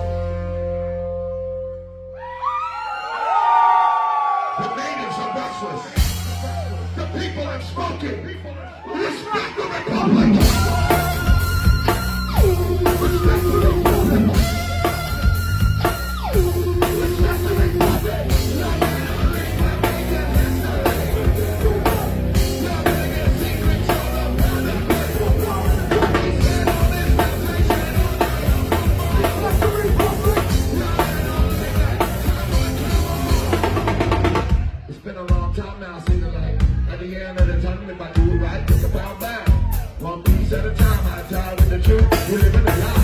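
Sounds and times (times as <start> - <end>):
rap-metal band playing: 0.0 - 1.6, 4.7 - 43.0
pounding drum kit: 5.9 - 7.4, 10.1 - 43.0
person singing and yelling: 8.4 - 43.0.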